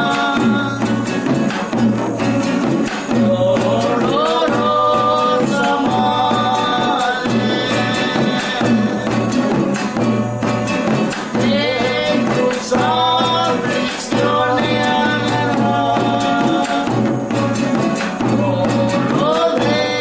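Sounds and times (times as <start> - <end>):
person singing folk song: 0.0 - 20.0.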